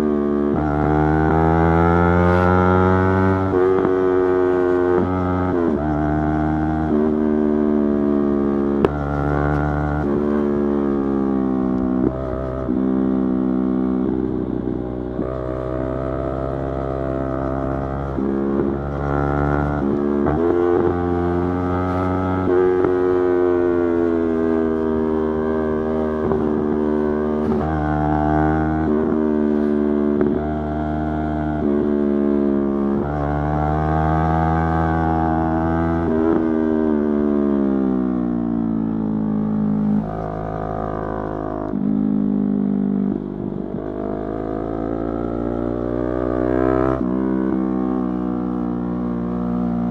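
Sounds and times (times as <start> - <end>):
motorcycle engine shifting gears: 0.0 - 49.9.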